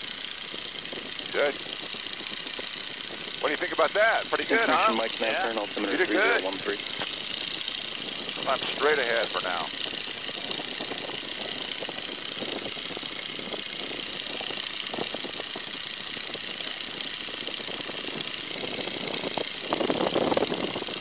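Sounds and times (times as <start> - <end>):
biplane radial engine and propeller: 0.0 - 21.0.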